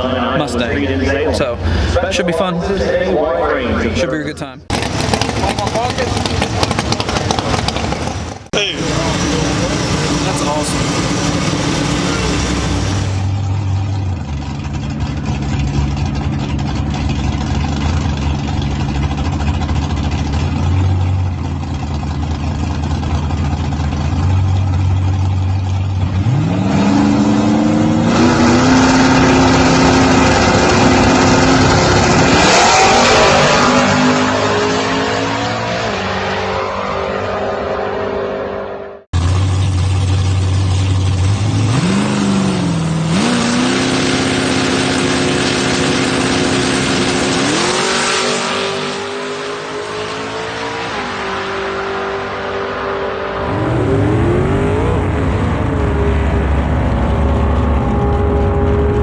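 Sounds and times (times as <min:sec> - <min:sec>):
race car engine revving: 0:04.6 - 0:59.0.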